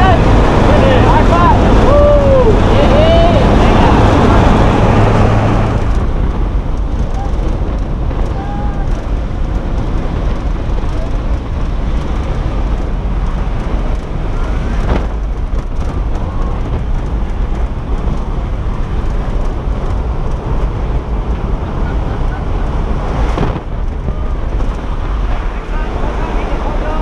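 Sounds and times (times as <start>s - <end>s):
aircraft engine noise: 0.0s - 27.0s
wind buffeting microphone: 0.0s - 27.0s
wind rushing: 0.0s - 27.0s.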